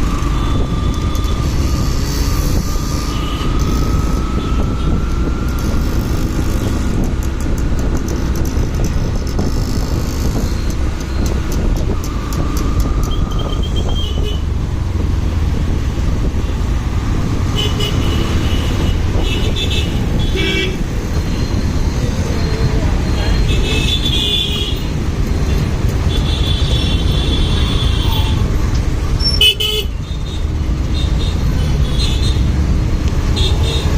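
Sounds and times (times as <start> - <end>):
wind rumble: 0.0 - 29.3
motorcycle road noise: 0.0 - 33.9.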